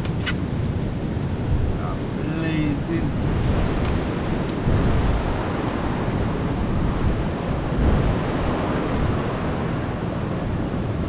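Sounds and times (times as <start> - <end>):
wind buffeting microphone: 0.0 - 11.0
surf: 1.3 - 11.0.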